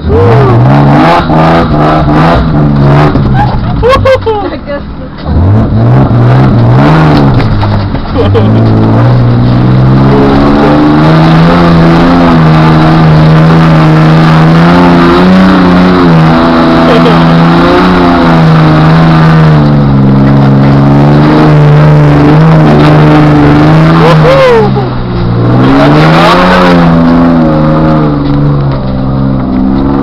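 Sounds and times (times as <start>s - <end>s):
off-road engine revving: 0.0s - 30.0s.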